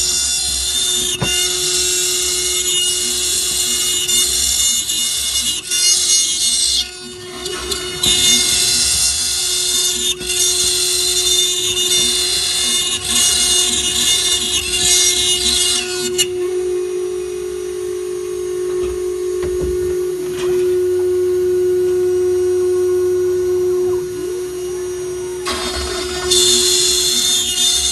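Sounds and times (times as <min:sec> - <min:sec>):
router bit cutting wood: 0:00.0 - 0:20.9, 0:23.6 - 0:27.9
router spindle whining: 0:00.0 - 0:27.9.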